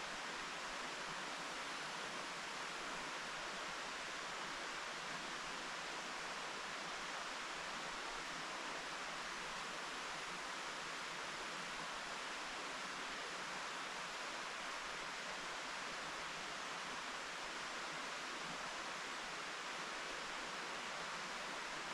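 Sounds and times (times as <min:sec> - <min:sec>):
mountain stream flowing: 0:00.0 - 0:21.9.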